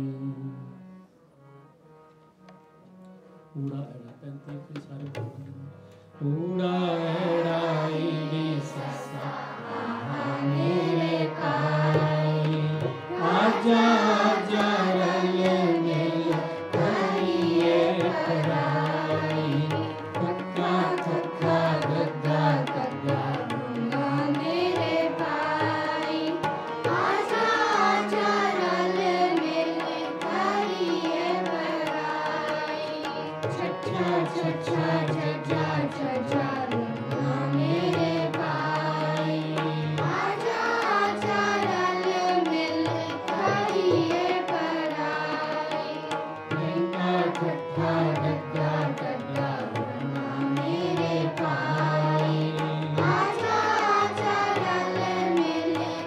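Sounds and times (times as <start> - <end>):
harmoniums playing melody: 0.0 - 56.0
tabla drumming: 3.7 - 5.7, 10.2 - 56.0
group singing a hymn: 7.2 - 56.0.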